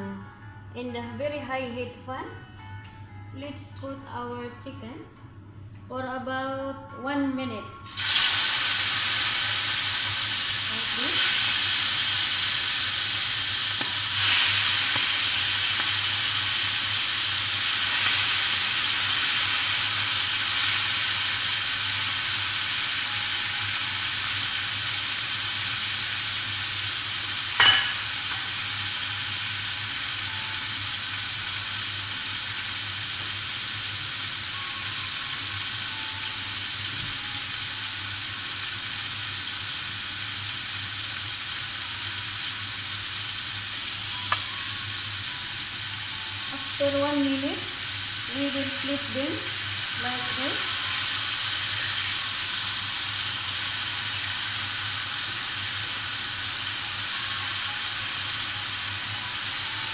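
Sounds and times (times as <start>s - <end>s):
chicken sizzling in frying pan: 7.9s - 59.9s.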